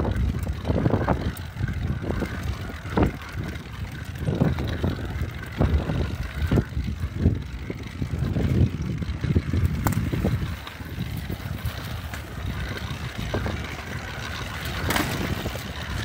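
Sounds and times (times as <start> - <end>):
small engine running: 0.0 - 16.0
wind rumble on microphone: 0.0 - 16.0.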